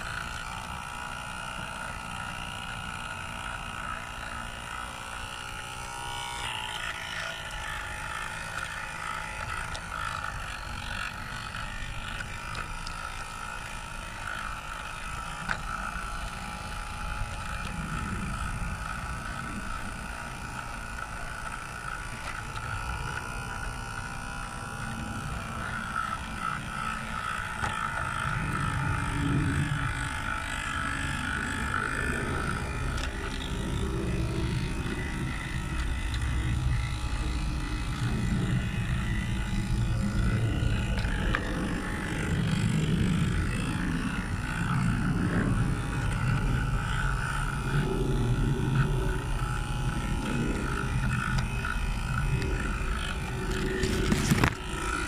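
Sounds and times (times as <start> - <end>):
model locomotive motor whine: 0.0 - 55.0.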